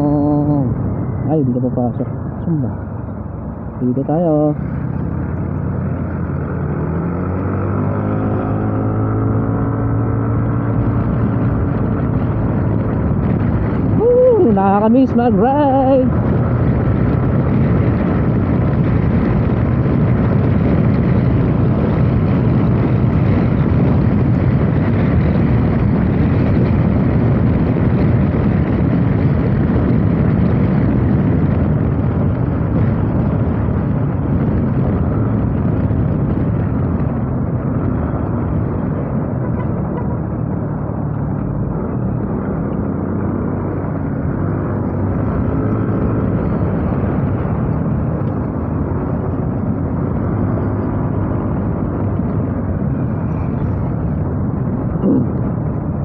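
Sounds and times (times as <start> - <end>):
motorcycle engine hum: 0.0 - 56.0
wind and road noise: 0.0 - 56.0.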